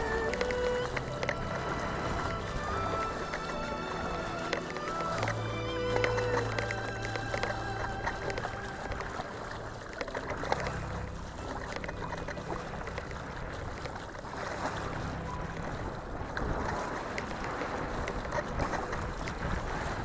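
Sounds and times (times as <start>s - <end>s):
water splashing and lapping: 0.0s - 20.0s
wind buffeting microphone: 0.0s - 20.0s.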